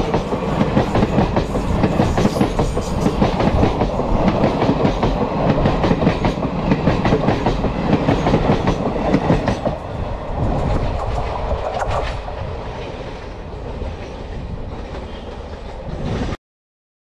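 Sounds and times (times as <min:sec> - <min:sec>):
train wheels clickety-clack: 0:00.0 - 0:13.0, 0:13.6 - 0:16.4.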